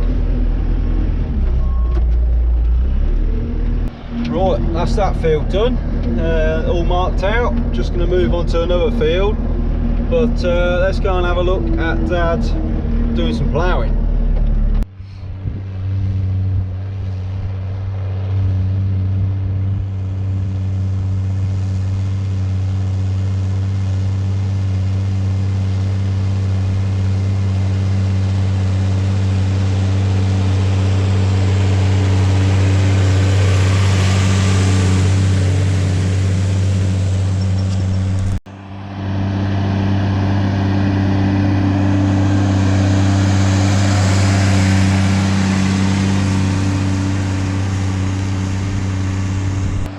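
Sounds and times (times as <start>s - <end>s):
tractor engine drone: 0.0s - 49.9s
rushing noise: 2.4s - 49.9s.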